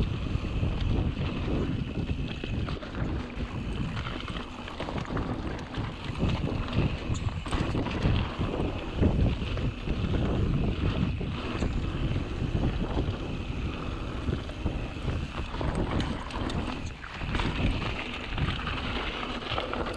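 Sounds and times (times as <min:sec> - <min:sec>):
bike clicks and rattles: 0:00.0 - 0:19.9
bike tyres rolling on dirt: 0:00.0 - 0:19.9
wind buffeting microphone: 0:00.0 - 0:19.9.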